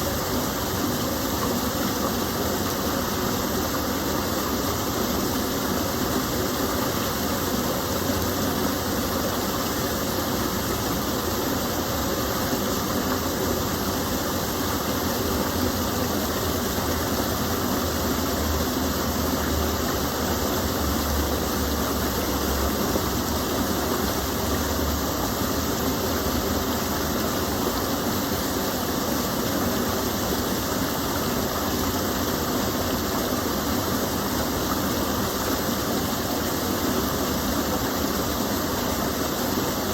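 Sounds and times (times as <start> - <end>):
water spilling over small fall: 0.0 - 39.9.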